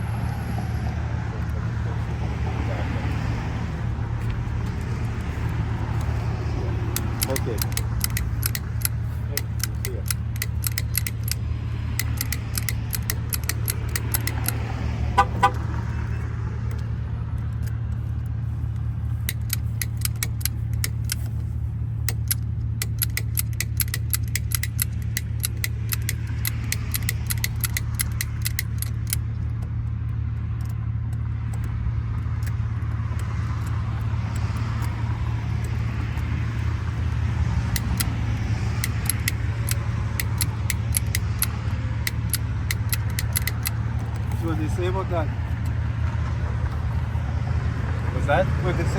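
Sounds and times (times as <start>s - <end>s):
low engine-like hum: 0.0s - 48.9s
lock-picking tools clicking: 1.4s - 45.8s.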